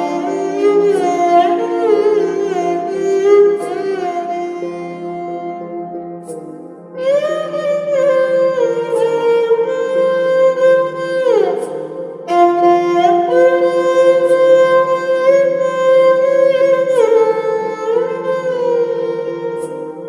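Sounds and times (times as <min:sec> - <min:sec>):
slow sliding melody: 0:00.0 - 0:20.0.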